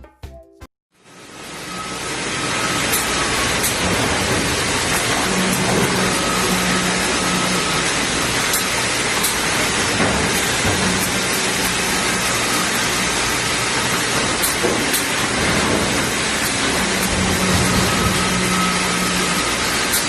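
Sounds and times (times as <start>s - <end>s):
woodworking machinery running: 1.0s - 20.0s.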